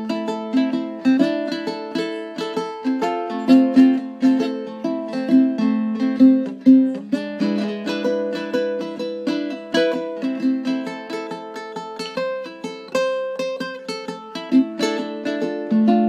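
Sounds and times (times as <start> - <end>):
ukulele plucked notes and chords: 0.0 - 16.0.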